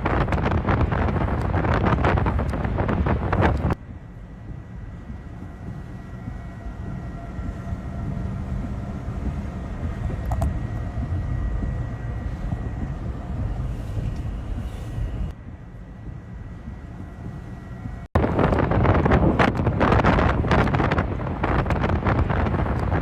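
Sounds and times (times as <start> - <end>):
strong wind rumbling: 0.0 - 23.0.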